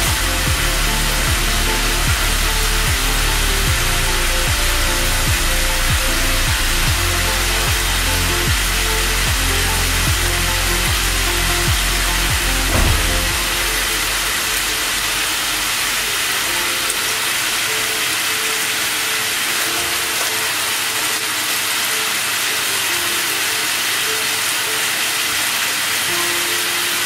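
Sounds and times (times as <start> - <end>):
sauce sizzling in oil: 0.0 - 27.0.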